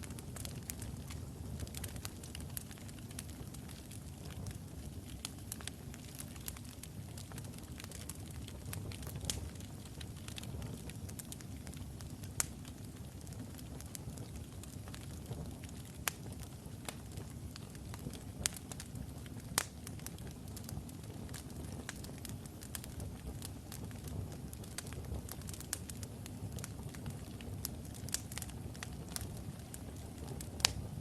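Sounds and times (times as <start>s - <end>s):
fire flames rumbling: 0.0s - 31.0s
wood crackling and popping: 0.0s - 31.0s.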